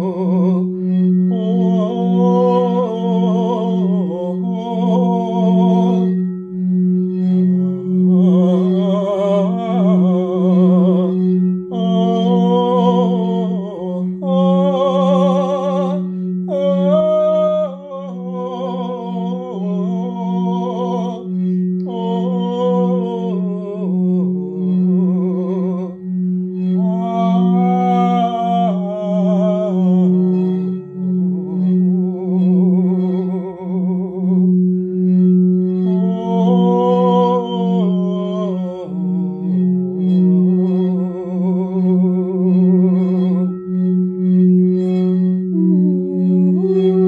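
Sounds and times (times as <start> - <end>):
singing bowl ringing: 0.0 - 47.0.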